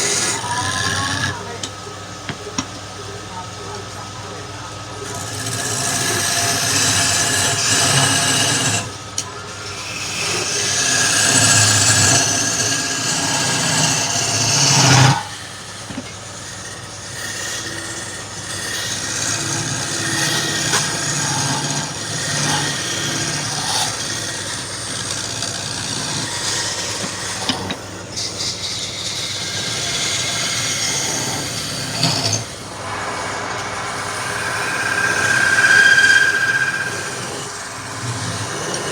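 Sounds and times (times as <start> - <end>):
turning tool cutting wood hiss: 0.0 - 2.6, 5.0 - 38.9
lathe motor hum: 0.0 - 38.9.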